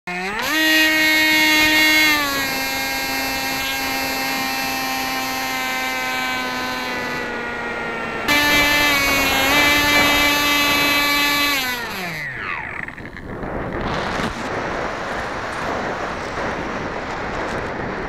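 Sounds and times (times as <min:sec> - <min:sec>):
electric motor and propeller whine: 0:00.1 - 0:18.0.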